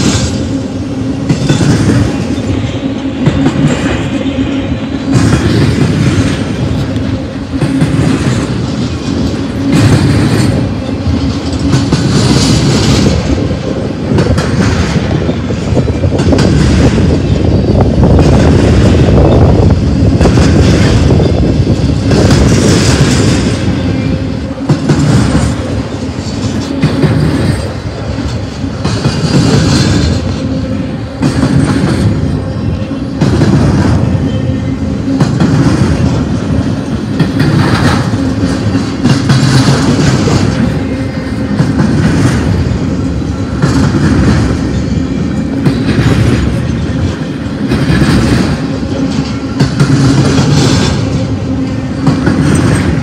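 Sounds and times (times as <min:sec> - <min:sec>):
freight train wheels rumbling on rail: 0:00.0 - 0:53.0.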